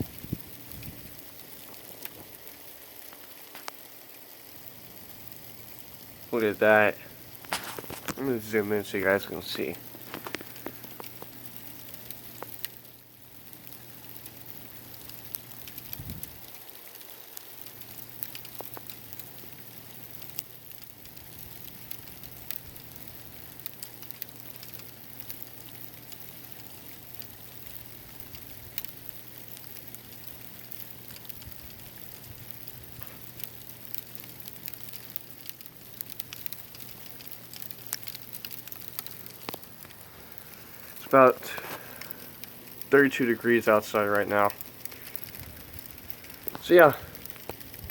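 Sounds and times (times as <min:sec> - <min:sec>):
sleet ticking on a roof: 0:00.0 - 0:47.9.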